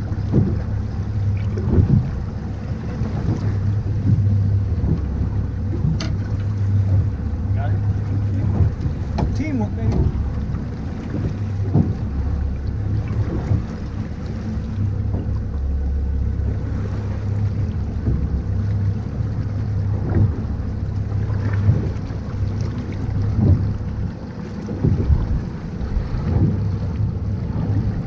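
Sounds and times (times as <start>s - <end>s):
boat engine humming: 0.0s - 28.0s
wind buffeting microphone: 0.0s - 28.0s.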